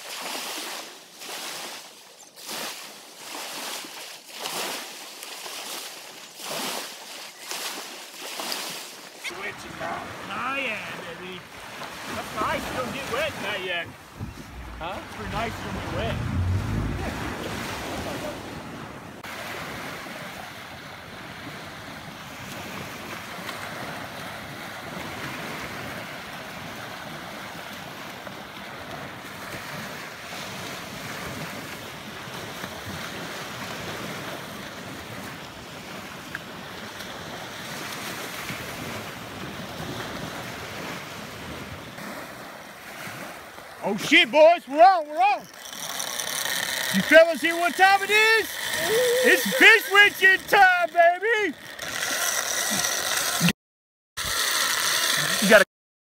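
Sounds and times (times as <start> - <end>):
small waves breaking on sand: 0.0 - 53.5, 54.2 - 55.6
wind: 0.0 - 53.6, 54.2 - 55.6.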